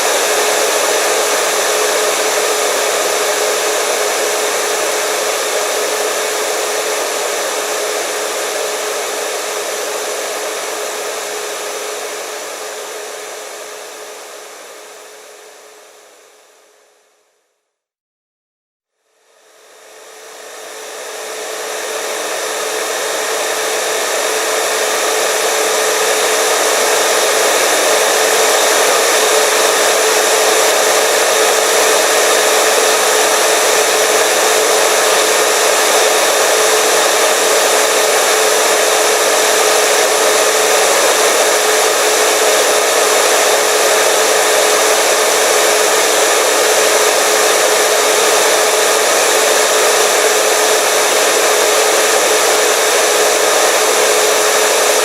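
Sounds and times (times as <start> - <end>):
hair dryer running: 0.0 - 17.0, 19.2 - 55.0.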